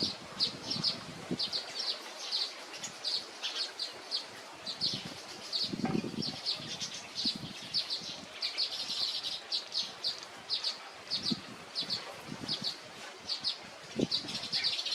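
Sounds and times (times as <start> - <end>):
songbirds chirping: 0.0 - 14.9.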